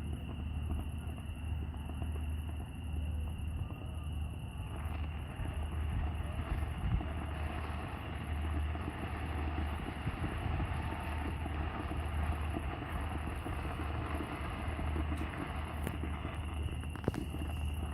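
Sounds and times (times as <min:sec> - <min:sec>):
even noise: 0:00.0 - 0:17.9
steady low rumble: 0:00.0 - 0:17.9.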